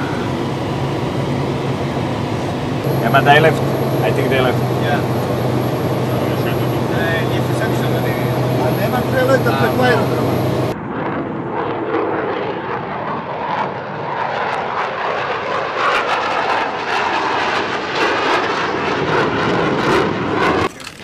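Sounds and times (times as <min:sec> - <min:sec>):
fighter jet roaring past: 0:00.0 - 0:20.7.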